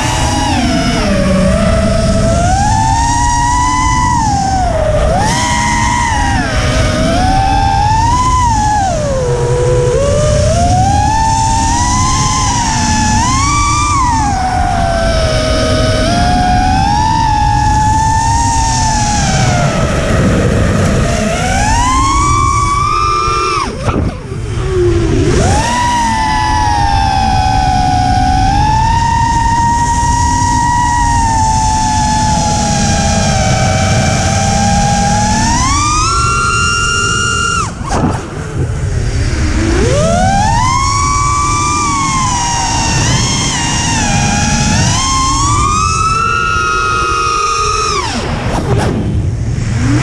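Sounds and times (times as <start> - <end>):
drone motors whining: 0.0 - 50.0
wind rushing: 0.0 - 50.0.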